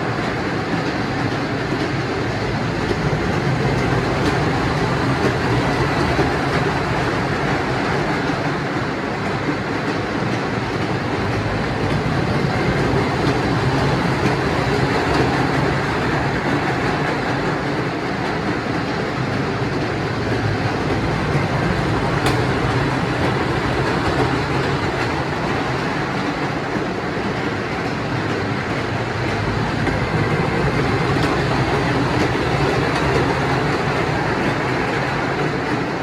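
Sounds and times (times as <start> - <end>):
train wheels rumbling and rattling: 0.0 - 36.0.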